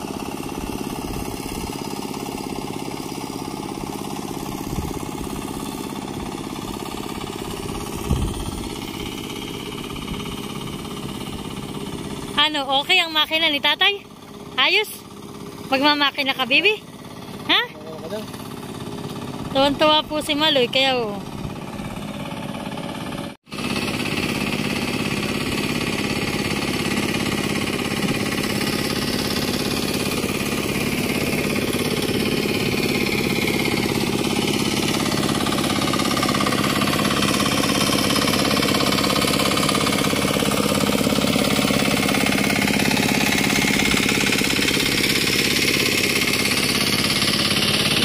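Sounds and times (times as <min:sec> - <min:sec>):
tiller engine running: 0:00.0 - 0:48.0.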